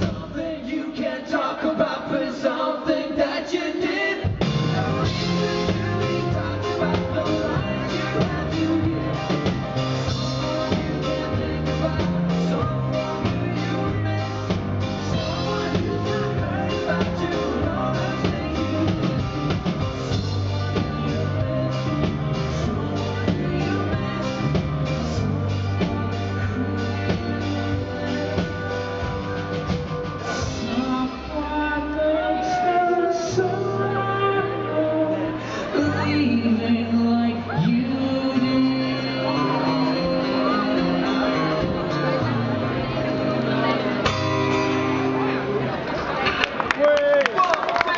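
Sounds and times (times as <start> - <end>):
rock band playing live: 0.0 - 1.2, 3.5 - 46.7
person singing: 0.0 - 45.4.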